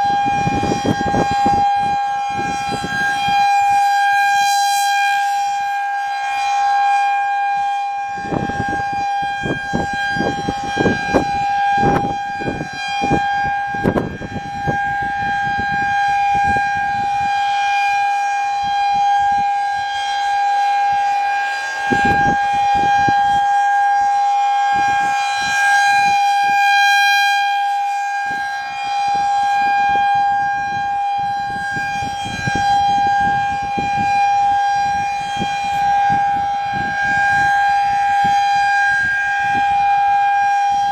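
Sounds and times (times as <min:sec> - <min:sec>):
tornado siren steady tone: 0:00.0 - 0:40.9.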